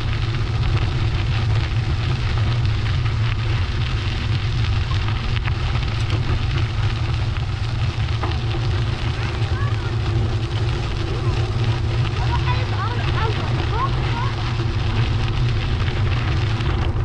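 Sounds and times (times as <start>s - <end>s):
road noise hiss: 0.0s - 17.0s
wind buffeting microphone: 0.0s - 17.0s.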